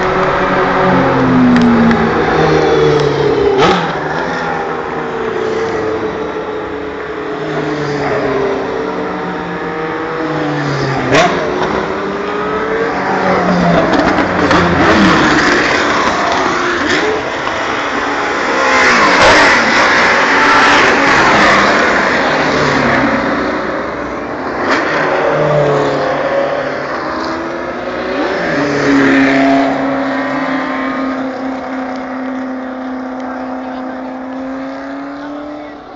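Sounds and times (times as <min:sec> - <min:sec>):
racing car engines revving: 0:00.0 - 0:35.9.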